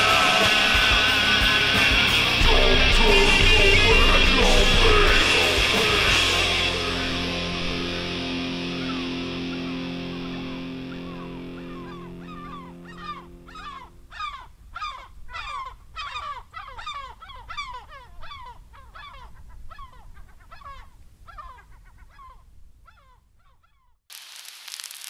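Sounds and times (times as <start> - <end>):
gulls calling: 0.0 - 23.9.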